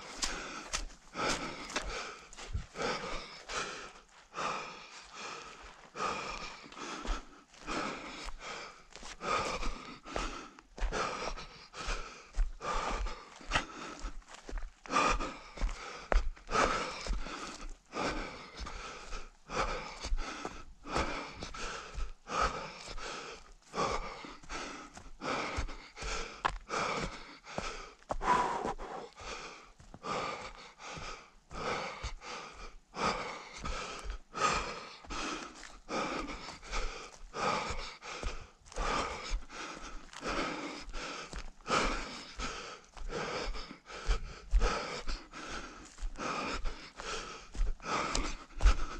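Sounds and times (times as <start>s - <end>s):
runner breathing hard: 0.0s - 48.9s.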